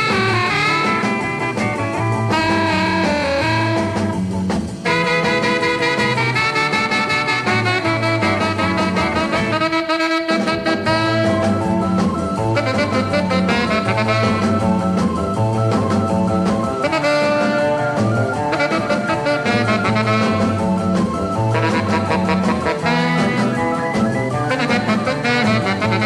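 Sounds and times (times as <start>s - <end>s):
instrumental rock and roll: 0.0s - 26.0s
saxophone melody: 0.0s - 26.0s.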